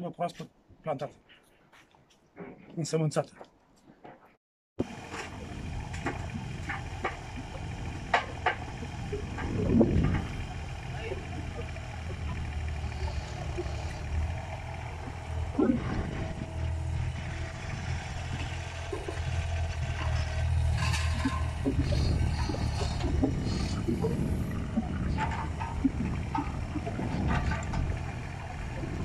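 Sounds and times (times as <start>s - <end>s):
diesel engine running: 4.8s - 29.0s.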